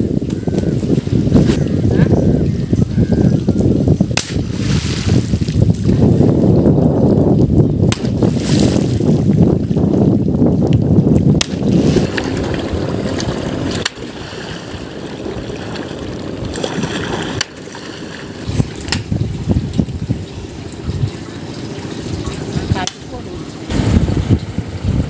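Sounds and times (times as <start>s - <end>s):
water splashing and churning: 0.0s - 25.0s.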